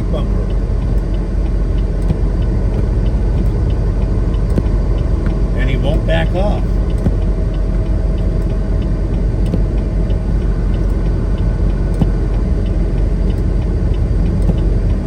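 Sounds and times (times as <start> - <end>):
faint regular ticking: 0.0 - 15.0
truck engine and road noise: 0.0 - 15.0.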